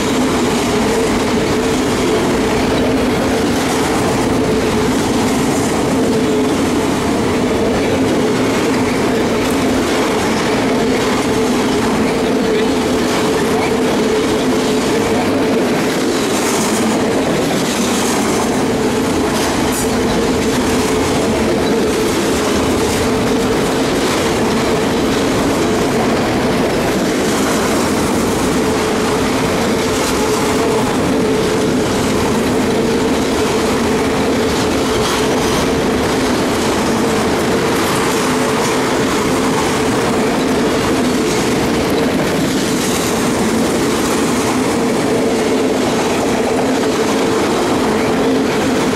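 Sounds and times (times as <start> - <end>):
railroad cars rolling past: 0.0 - 48.9
wheels clicking over rail joints: 0.0 - 48.9.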